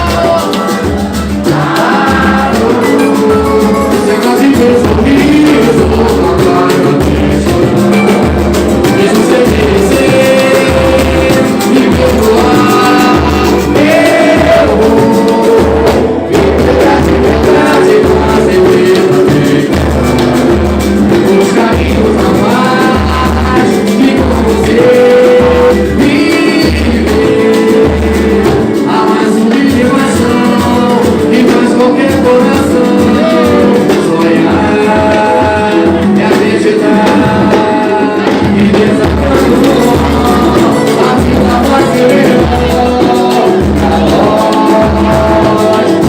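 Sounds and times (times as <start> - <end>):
person singing: 0.0 - 46.0.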